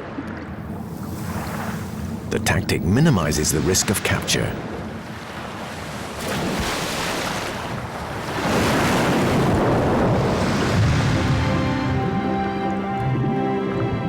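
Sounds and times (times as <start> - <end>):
sea waves washing in: 0.0 - 14.0.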